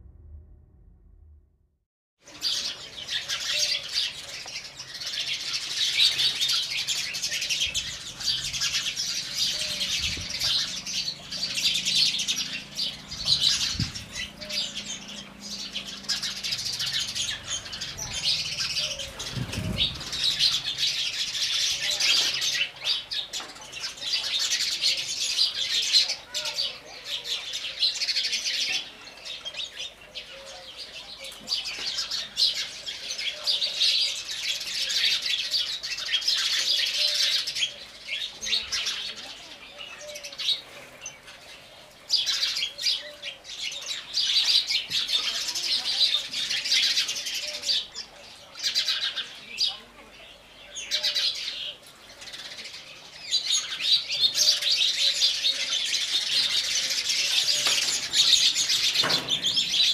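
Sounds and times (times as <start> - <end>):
sparrows chirping: 2.3 - 59.9.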